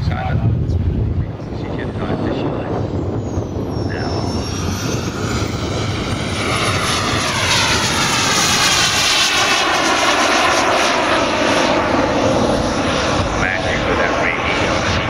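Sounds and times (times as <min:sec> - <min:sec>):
model jet turbine whine and roar: 0:00.0 - 0:15.0.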